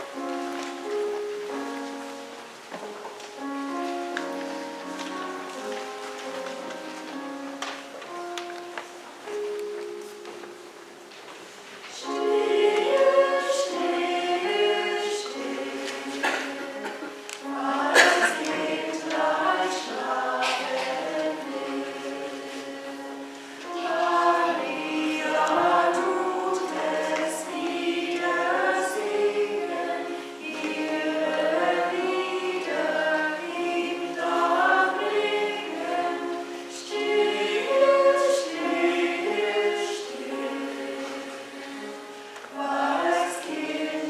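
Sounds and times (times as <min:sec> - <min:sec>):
church choir singing: 0:00.0 - 0:44.0.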